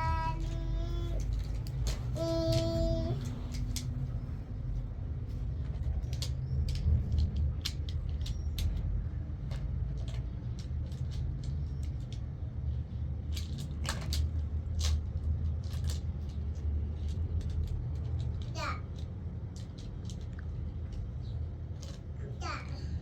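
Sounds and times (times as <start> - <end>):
vehicle driving rumble: 0.0 - 23.0.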